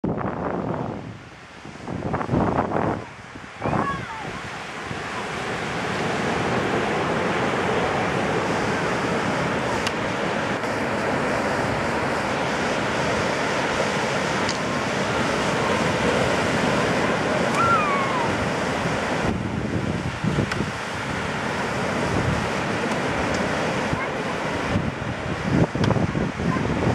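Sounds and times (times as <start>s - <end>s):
ocean surf breaking: 0.7s - 26.9s.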